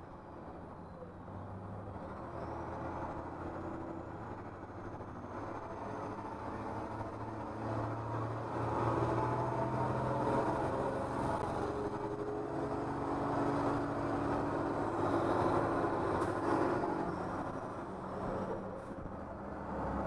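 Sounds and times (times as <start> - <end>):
bus engine running hard: 0.0 - 20.0.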